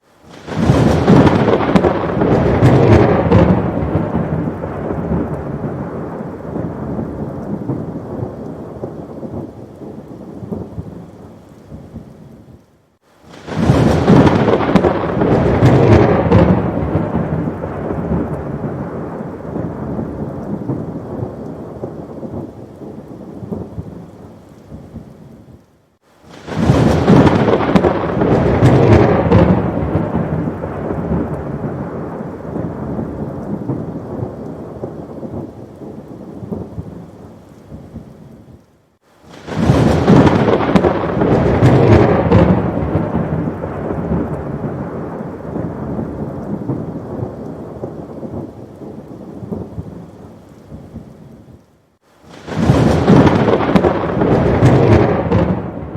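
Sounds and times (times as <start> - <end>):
heavy rain: 0.0 - 55.9
rolling thunder rumble: 0.3 - 12.0, 13.3 - 24.1, 26.3 - 38.1, 39.3 - 51.1, 52.3 - 55.9.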